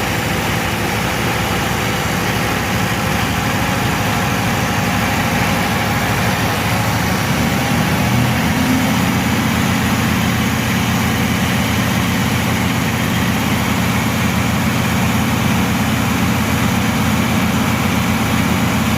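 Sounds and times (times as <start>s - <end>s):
diesel truck engine idling: 0.0s - 18.9s.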